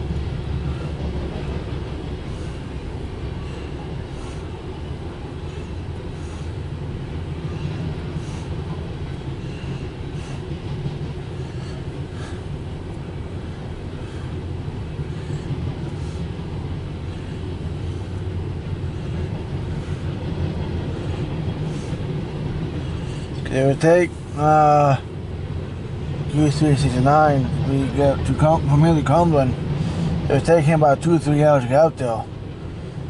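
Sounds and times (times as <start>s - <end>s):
train rumbling past: 0.0s - 33.0s
wheels clicking on track: 0.0s - 33.0s.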